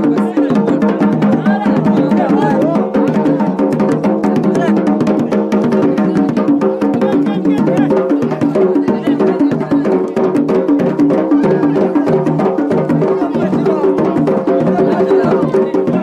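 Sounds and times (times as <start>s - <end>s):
drums beaten in fast rhythm: 0.0s - 16.0s.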